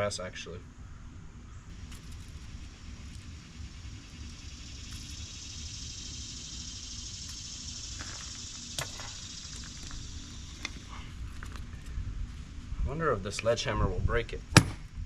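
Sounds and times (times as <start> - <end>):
steady high hiss: 0.0 - 14.5.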